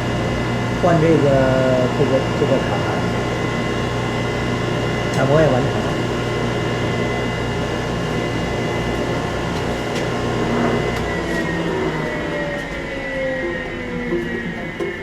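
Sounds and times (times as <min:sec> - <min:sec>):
wood lathe motor humming: 0:00.0 - 0:15.0.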